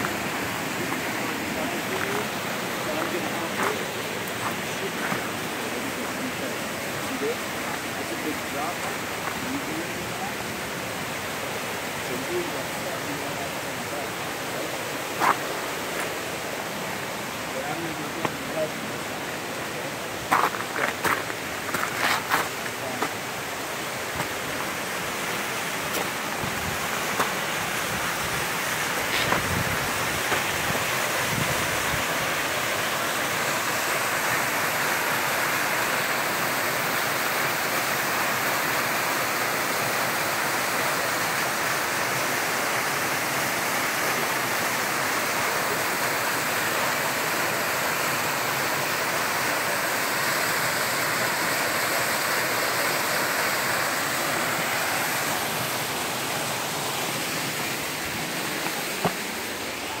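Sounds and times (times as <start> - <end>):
waterfall rushing into pool: 0.0 - 60.0.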